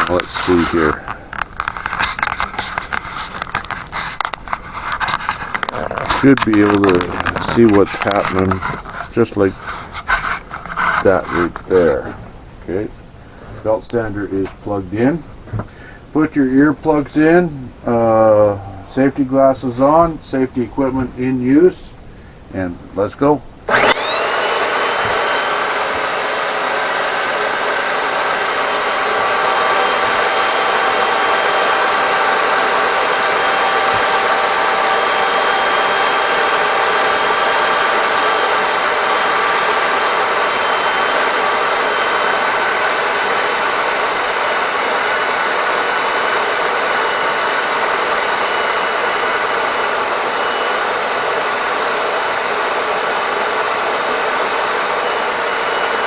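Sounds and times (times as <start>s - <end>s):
belt sander whining: 0.0s - 22.0s, 23.2s - 56.0s.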